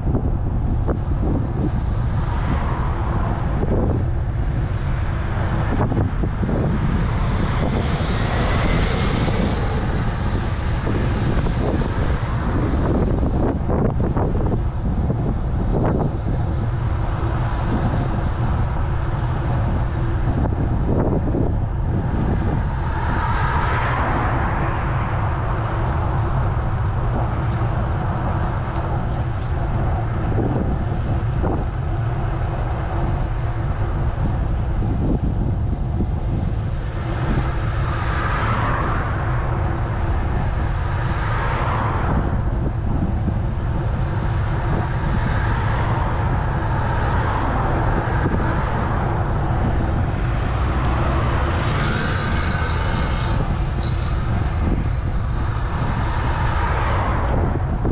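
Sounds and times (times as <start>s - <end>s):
cars passing: 0.0s - 57.9s
wind rumble on microphone: 0.0s - 57.9s.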